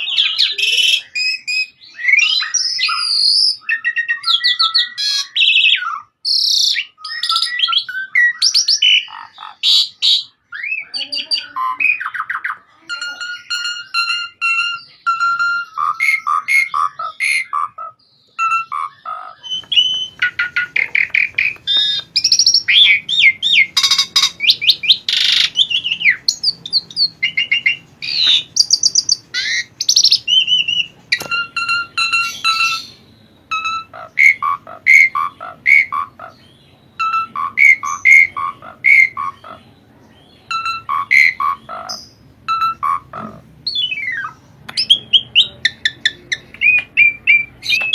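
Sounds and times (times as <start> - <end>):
starling singing: 0.0 - 47.9.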